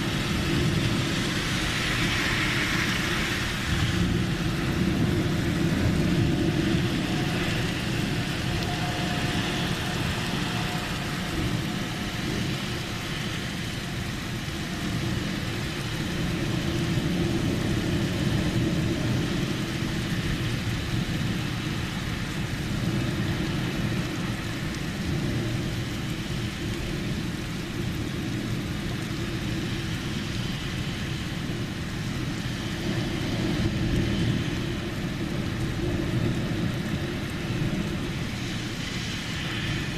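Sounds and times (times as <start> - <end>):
low thunder rumble: 0.0 - 39.9
steady rain: 0.0 - 39.9.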